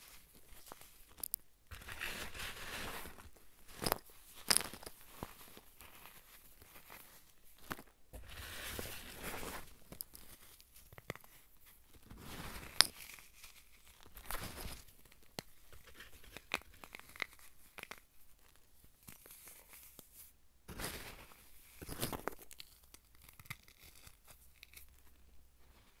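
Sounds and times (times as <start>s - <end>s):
fingers crushing dry powder clumps: 0.0s - 26.0s.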